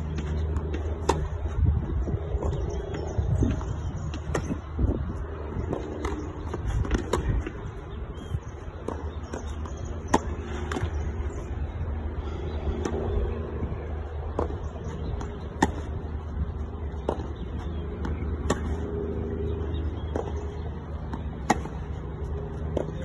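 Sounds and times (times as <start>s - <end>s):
tennis racquets hitting ball: 0.0s - 1.6s, 2.4s - 4.6s, 5.6s - 11.6s, 12.5s - 23.0s
steady low rumble: 0.0s - 23.0s.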